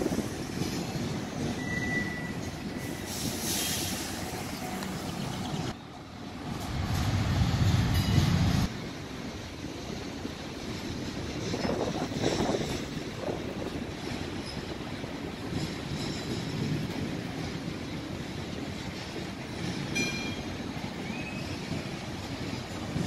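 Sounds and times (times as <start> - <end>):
train wheels on rail: 0.0 - 23.0.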